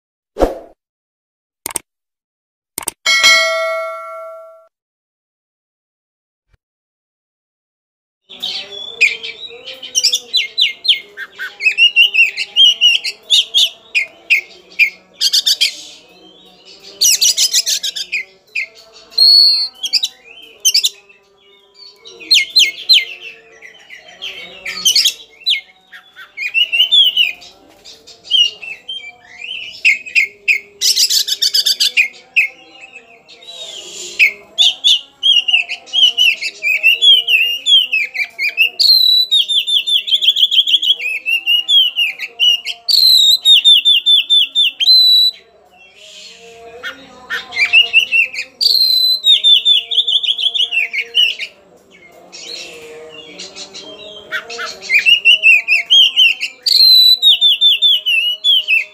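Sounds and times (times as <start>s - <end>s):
magpie-robin singing whistled phrases: 8.3s - 27.4s, 28.3s - 51.5s, 52.4s - 58.9s.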